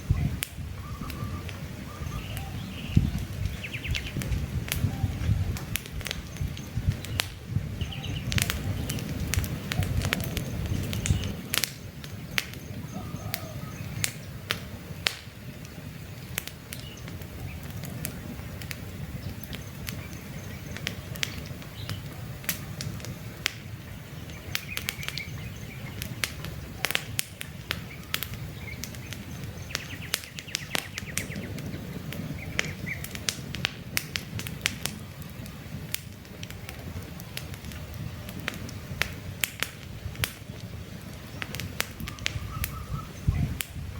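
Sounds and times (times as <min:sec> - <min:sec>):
birds chirping: 0:00.0 - 0:33.3, 0:40.3 - 0:43.9
campfire crackling and popping: 0:00.0 - 0:43.9
low rumble of flame: 0:00.0 - 0:43.9.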